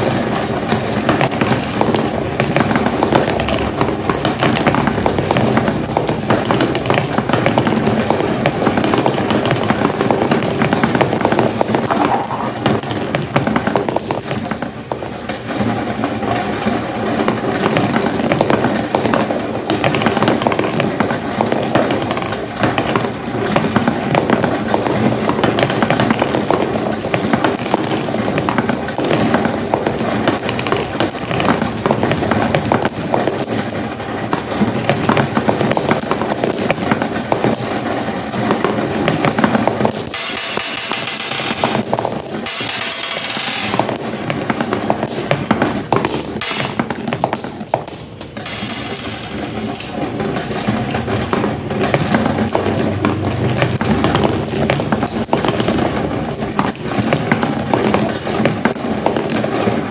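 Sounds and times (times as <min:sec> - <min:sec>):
marbles rolling down a track: 0:00.0 - 0:59.9.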